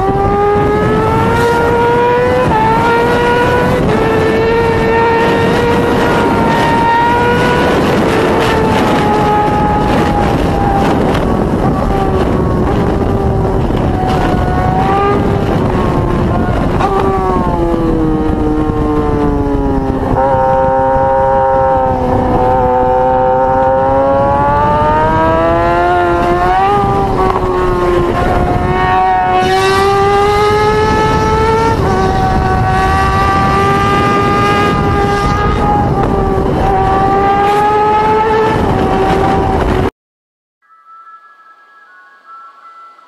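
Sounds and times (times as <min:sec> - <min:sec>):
motorcycle engine accelerating hard: 0:00.0 - 0:39.9
wind rushing: 0:00.0 - 0:39.9.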